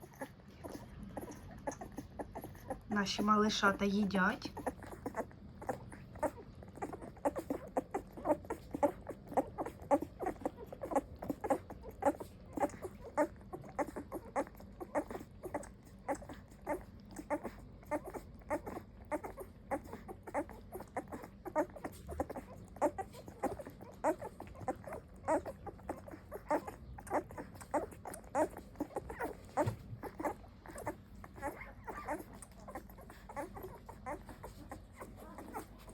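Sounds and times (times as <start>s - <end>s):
puppies lapping and chewing: 0.0s - 35.9s.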